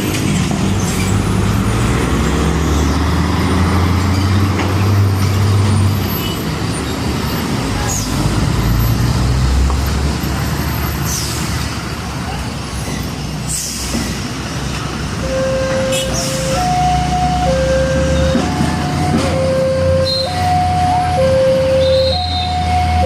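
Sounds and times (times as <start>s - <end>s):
heavy trucks engine rumble: 0.0s - 23.0s.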